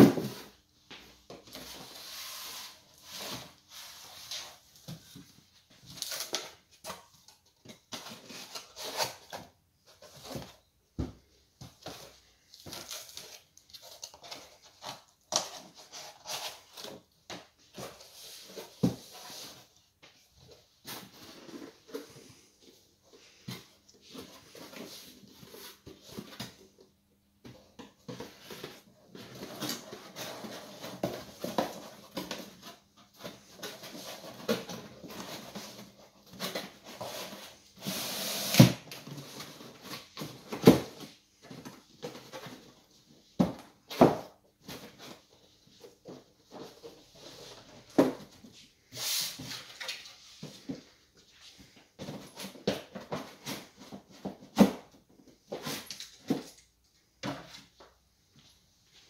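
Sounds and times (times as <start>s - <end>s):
cardboard rustling and scraping: 1.2s - 56.6s.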